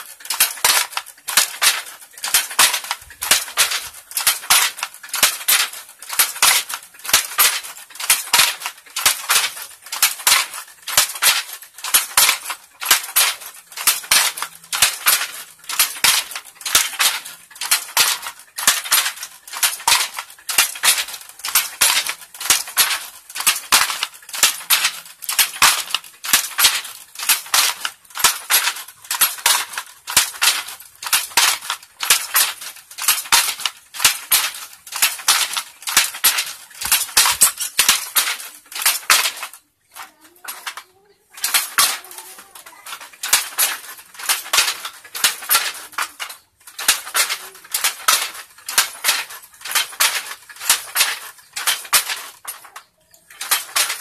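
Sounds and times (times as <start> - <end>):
handloom shuttle and beater clacking: 0.0 - 54.0.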